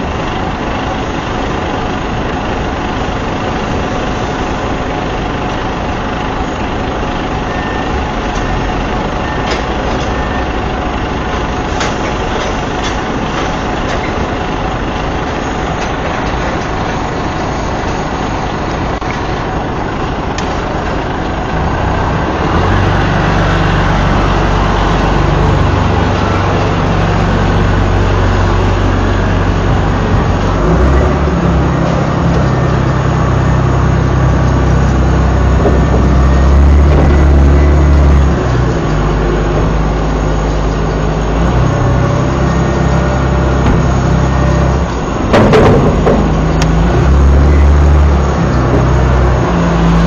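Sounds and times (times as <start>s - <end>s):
diesel engine under load: 0.0s - 50.0s.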